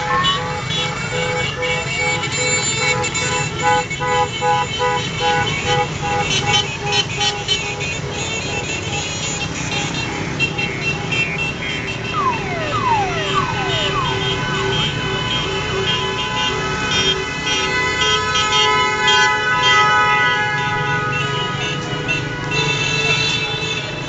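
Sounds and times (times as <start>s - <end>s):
car horns honking: 0.0s - 24.0s
slow traffic noise: 0.0s - 24.0s.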